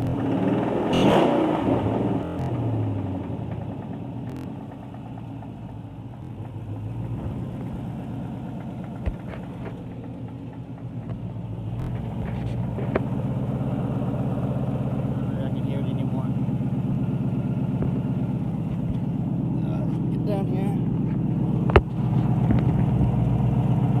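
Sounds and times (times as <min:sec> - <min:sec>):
car engine idling: 0:00.0 - 0:24.0
engine knocking: 0:00.0 - 0:24.0.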